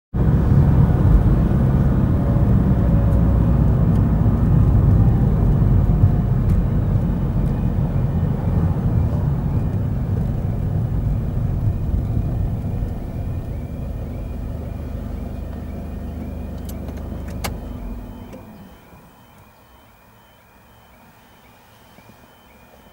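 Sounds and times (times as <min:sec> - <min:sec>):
car engine and road noise: 0:00.1 - 0:22.9
level crossing warning alarm: 0:02.9 - 0:22.9.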